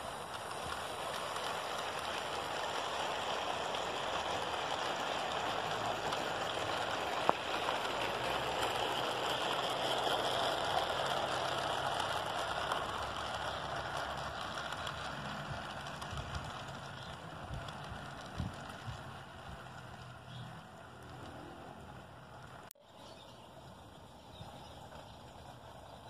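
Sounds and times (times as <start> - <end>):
model train wheels on rail: 0.0 - 26.0.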